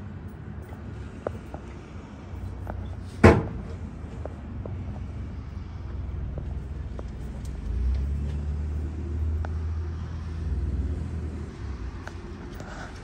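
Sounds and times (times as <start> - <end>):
low vehicle engine rumble: 0.0 - 13.0.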